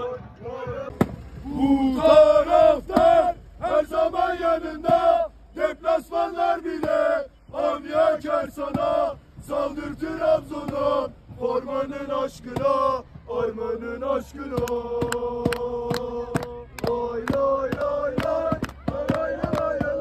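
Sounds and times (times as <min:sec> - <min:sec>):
crowd chanting: 0:00.0 - 0:20.0.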